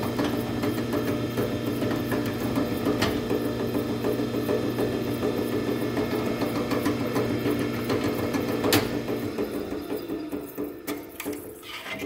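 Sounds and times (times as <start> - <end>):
drill press motor hum: 0.0 - 11.6.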